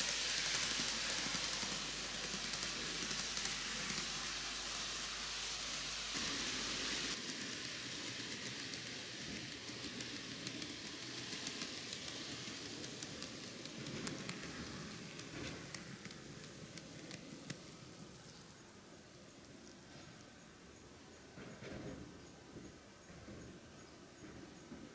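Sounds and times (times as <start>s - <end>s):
model train running on track: 0.0s - 24.9s.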